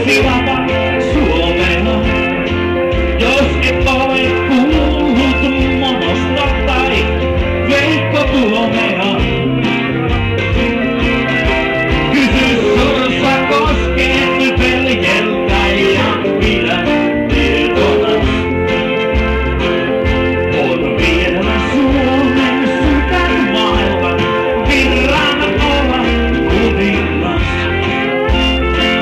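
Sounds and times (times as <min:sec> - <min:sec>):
live country-rock band: 0:00.0 - 0:29.0
man singing: 0:00.0 - 0:29.0.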